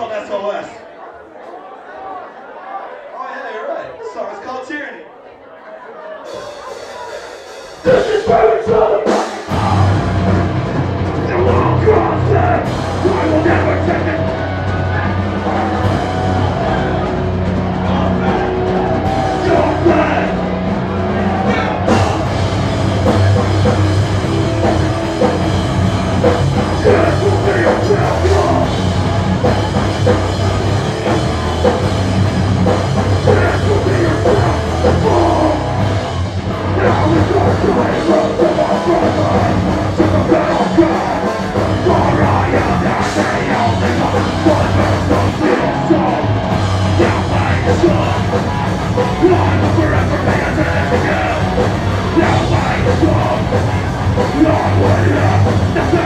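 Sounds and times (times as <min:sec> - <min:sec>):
punk band playing: 0:06.1 - 0:56.0.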